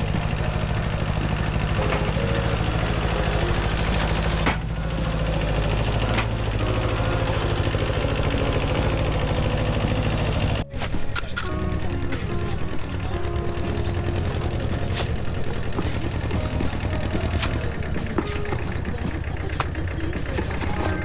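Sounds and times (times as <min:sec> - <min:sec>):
engine running with fast pulsing: 0:00.0 - 0:21.0
faint background music: 0:00.0 - 0:21.0.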